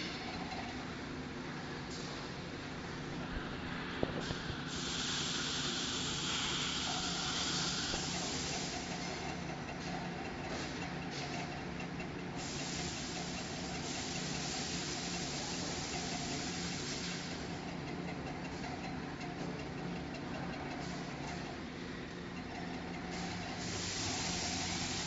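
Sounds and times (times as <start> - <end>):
machine humming and hissing: 0.0 - 25.0.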